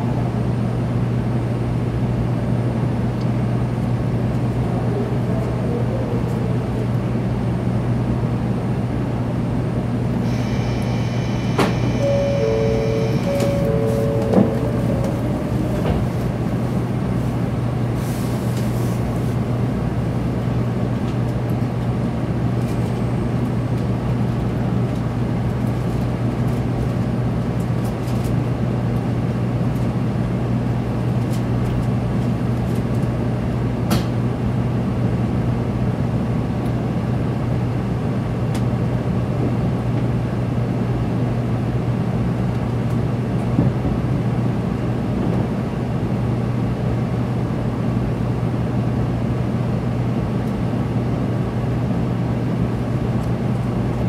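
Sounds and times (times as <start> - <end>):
train cabin hum and rumble: 0.0 - 54.0.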